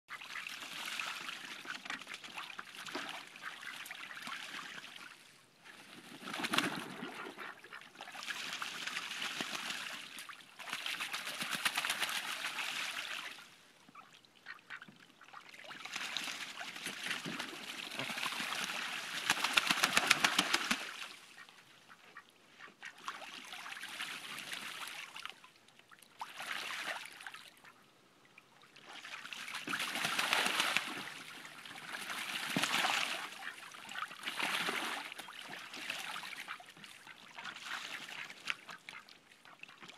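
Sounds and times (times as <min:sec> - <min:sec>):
ducks splashing in water: 0:00.1 - 0:13.4, 0:14.0 - 0:25.4, 0:26.2 - 0:27.5, 0:28.8 - 0:39.9.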